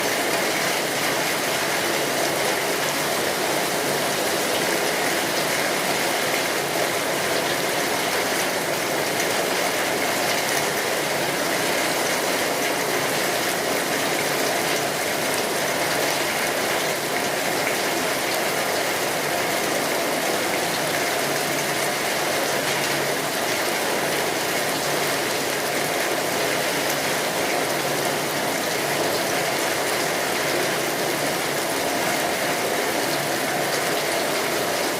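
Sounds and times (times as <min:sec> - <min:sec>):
steady rainfall: 0:00.0 - 0:34.9.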